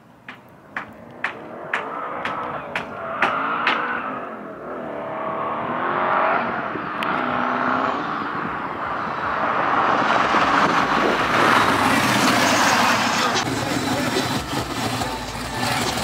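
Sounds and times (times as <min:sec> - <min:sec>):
rushing noise: 0:00.0 - 0:16.0
car engine revving under load: 0:00.2 - 0:16.0.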